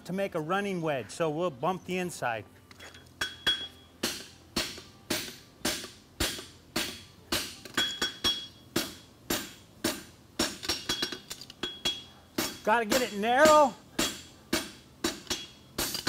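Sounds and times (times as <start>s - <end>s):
hammer striking metal on anvil: 3.1s - 16.0s.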